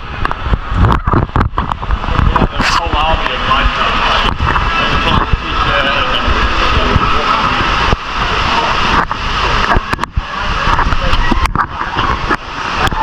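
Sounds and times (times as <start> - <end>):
loud rumble and hiss: 0.0 - 13.0
indistinct background voices: 2.0 - 13.0.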